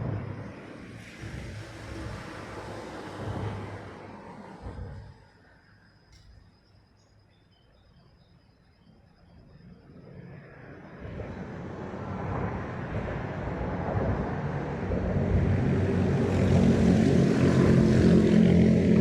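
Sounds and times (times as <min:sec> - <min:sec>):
approaching engine hum: 0:00.0 - 0:06.1, 0:09.6 - 0:19.0.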